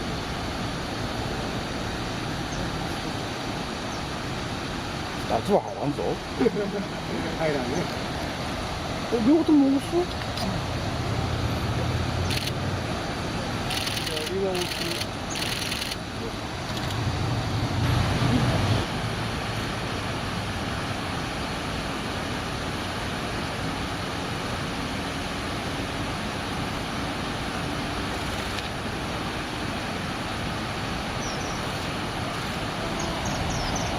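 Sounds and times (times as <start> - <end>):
rushing outdoor background noise: 0.0 - 33.9.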